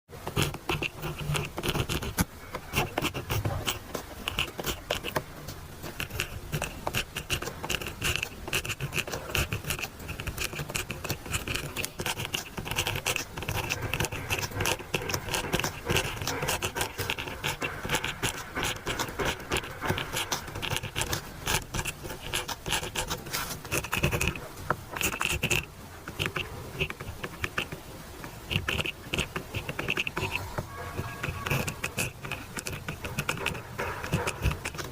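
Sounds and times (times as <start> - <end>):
pen scratching on paper: 0.2 - 34.9.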